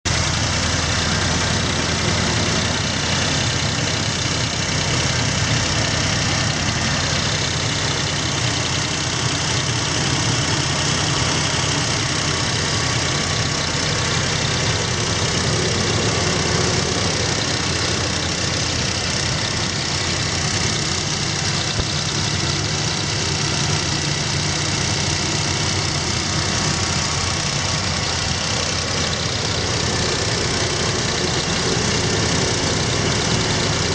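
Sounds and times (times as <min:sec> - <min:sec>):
car engine idling: 0:00.0 - 0:33.9
engine knocking: 0:00.0 - 0:33.9.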